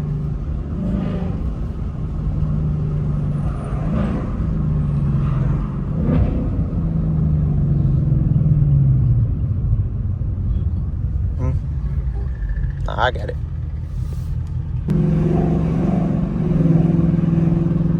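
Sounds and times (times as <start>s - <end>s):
car engine and exhaust: 0.0s - 17.9s.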